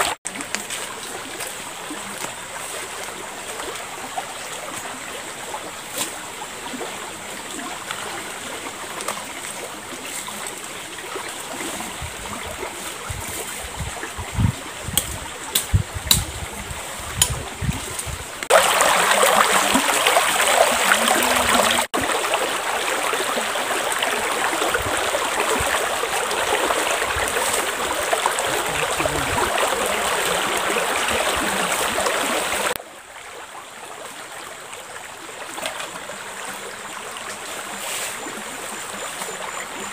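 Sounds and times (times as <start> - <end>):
shallow river flowing: 0.0 - 15.6, 16.3 - 39.9.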